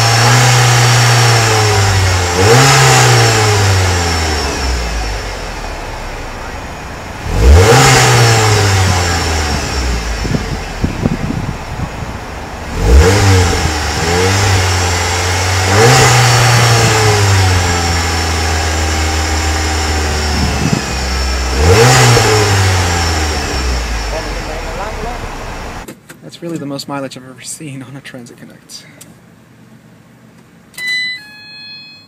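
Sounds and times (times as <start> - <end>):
engine idling and revving: 0.0 - 25.9.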